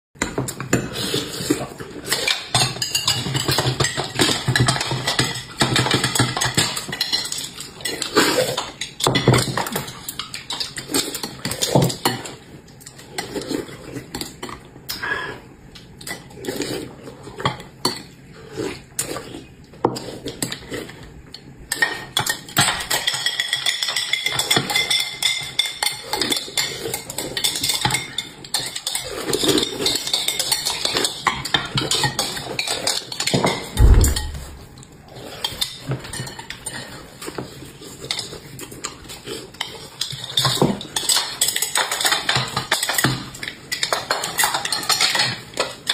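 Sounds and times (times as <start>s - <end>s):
utensils clinking against dishes: 0.2s - 15.0s, 21.7s - 34.2s, 35.1s - 45.9s.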